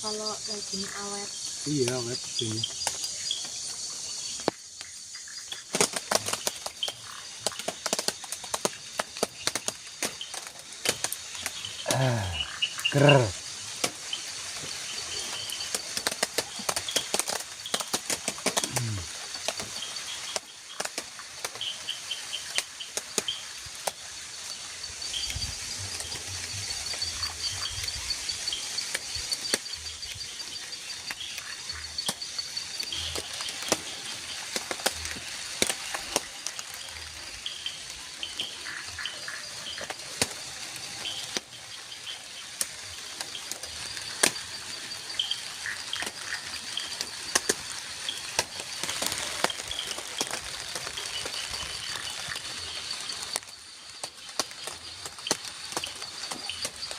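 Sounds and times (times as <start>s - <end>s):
insects chirring: 0.0s - 56.9s
rain tapping on plastic tarp: 0.0s - 56.9s.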